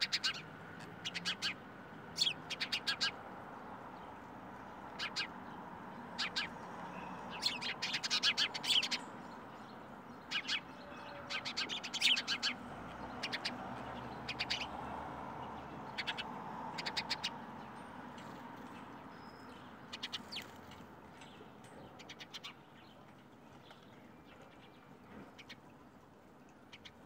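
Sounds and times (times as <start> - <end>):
small birds chirping: 0.0 - 25.8.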